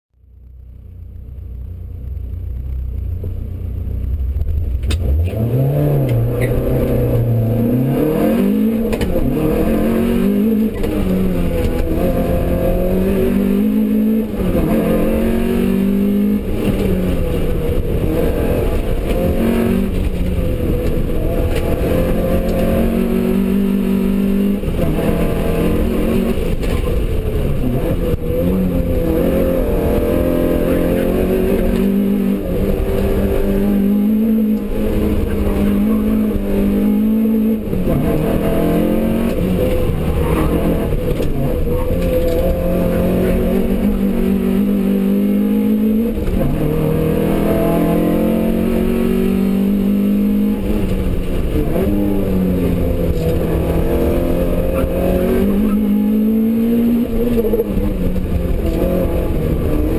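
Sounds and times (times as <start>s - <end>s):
car engine revving: 0.4s - 59.9s.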